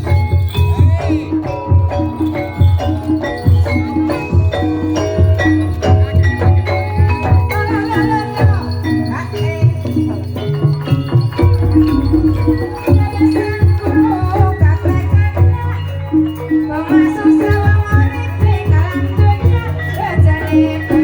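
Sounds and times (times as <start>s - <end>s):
pitched percussion melody: 0.0s - 21.0s
rattling percussion: 0.0s - 21.0s
steady drum beat: 0.0s - 21.0s.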